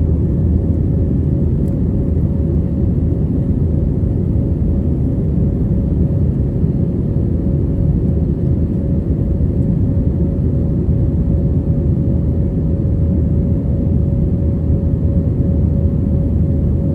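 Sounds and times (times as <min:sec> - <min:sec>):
jet engines and airflow rumble: 0:00.0 - 0:16.9.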